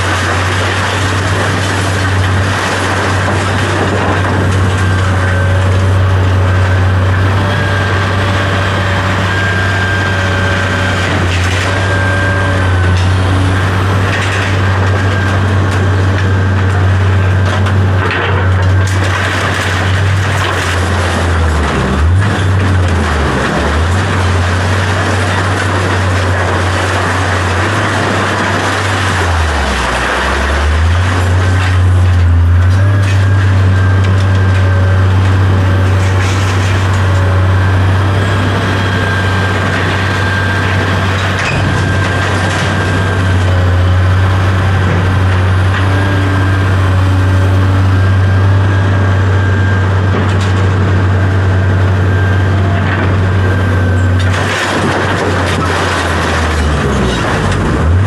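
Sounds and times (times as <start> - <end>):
vehicle engine humming: 0.0 - 58.0.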